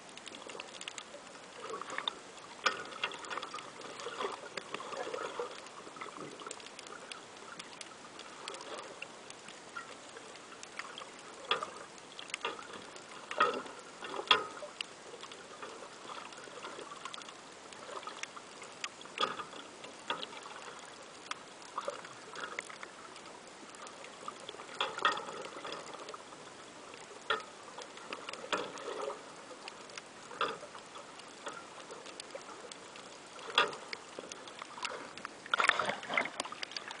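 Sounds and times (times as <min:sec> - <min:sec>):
water splashing: 0:00.0 - 0:37.0.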